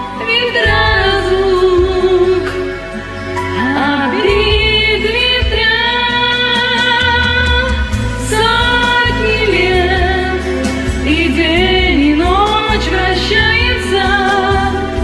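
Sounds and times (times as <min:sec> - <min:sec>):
karaoke backing track: 0:00.0 - 0:15.0
woman singing with vibrato: 0:00.0 - 0:15.0.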